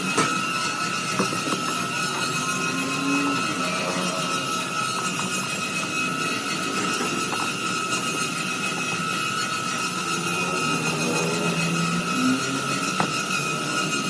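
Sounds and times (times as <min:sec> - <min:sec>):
machine motor whining: 0:00.0 - 0:14.0.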